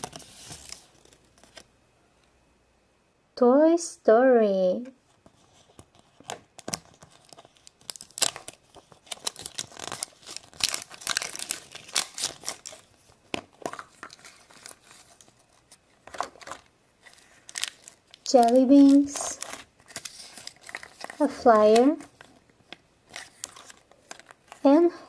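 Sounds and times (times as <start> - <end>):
wrapper crinkling and tearing: 0.0 - 1.7, 5.9 - 24.7.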